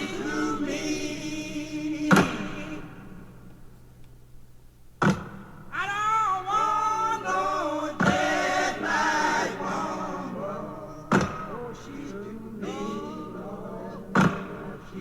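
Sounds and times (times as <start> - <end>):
voices singing together: 0.0 - 3.6, 5.8 - 15.0.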